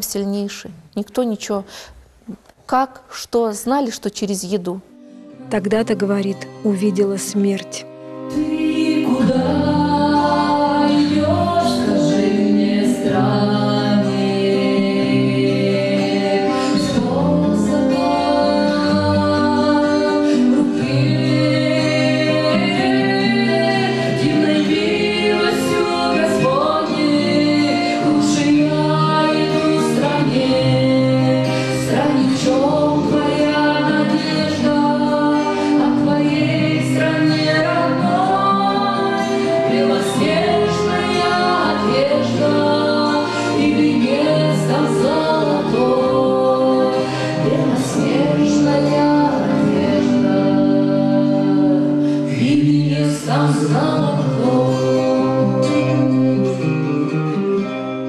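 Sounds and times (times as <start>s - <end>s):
woman singing spiritual song: 0.0s - 56.7s.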